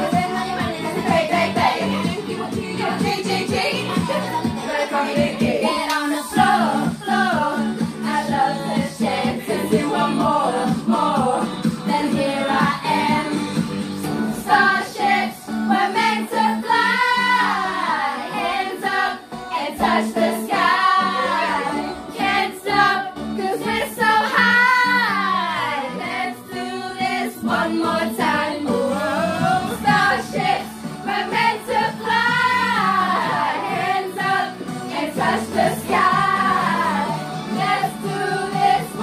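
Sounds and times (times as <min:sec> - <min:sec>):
voices singing together: 0:00.0 - 0:39.0.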